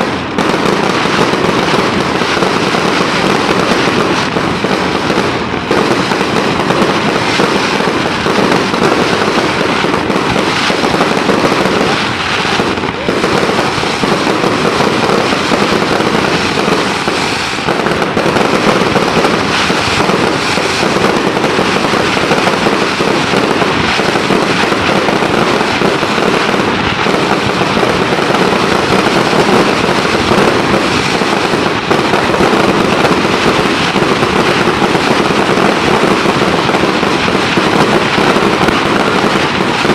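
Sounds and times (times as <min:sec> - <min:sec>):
fireworks crackling bangs: 0:00.0 - 0:39.9.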